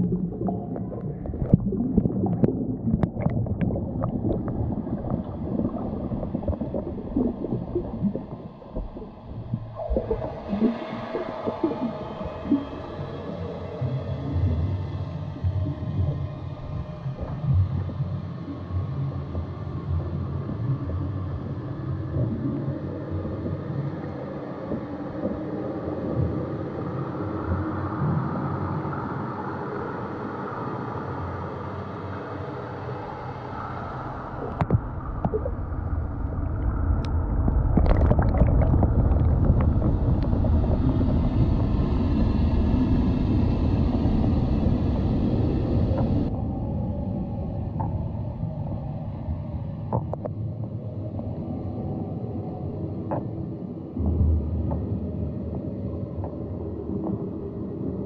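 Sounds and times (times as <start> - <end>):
muffled underwater rumbling: 0.0 - 29.4, 33.0 - 58.0.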